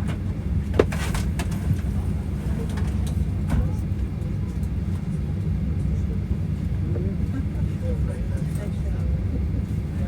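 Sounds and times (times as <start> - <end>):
faint murmuring voices: 1.6 - 10.0.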